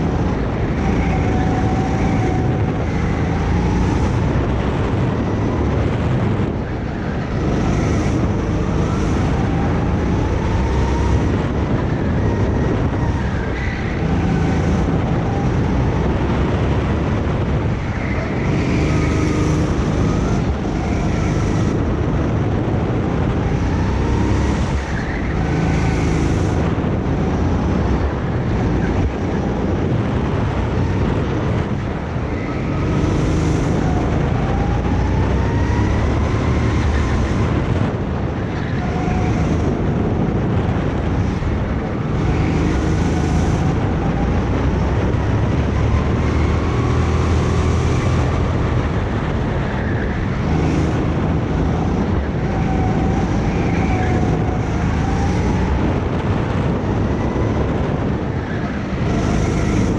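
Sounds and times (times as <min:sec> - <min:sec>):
go-kart engine revving: 0:00.0 - 0:59.9
wind buffeting microphone: 0:00.0 - 0:59.9.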